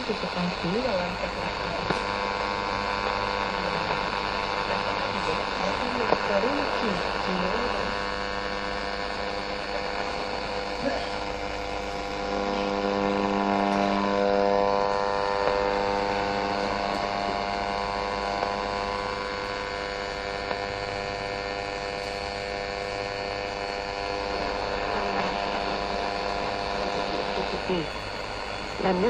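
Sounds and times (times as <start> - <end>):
radio buzzing hum: 0.0 - 29.0
radio static hiss: 0.0 - 29.0.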